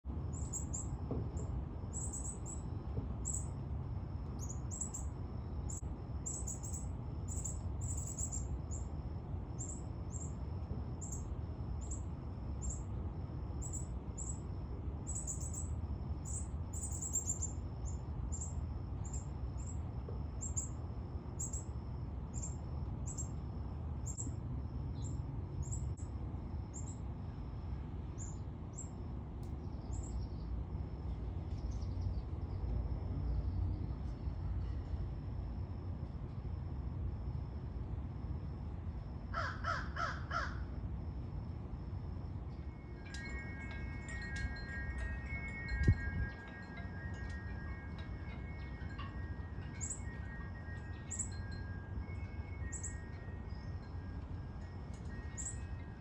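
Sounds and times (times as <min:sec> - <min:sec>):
low background rumble: 0:00.1 - 0:56.0.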